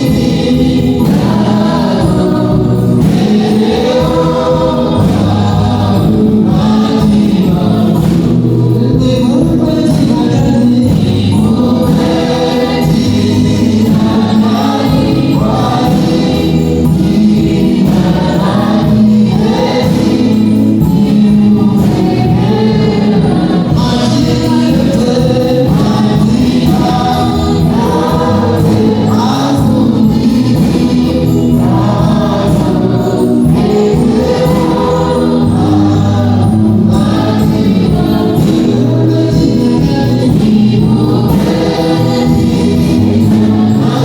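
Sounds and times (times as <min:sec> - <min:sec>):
choir singing gospel: 0:00.0 - 0:44.0
instrumental backing: 0:00.0 - 0:44.0.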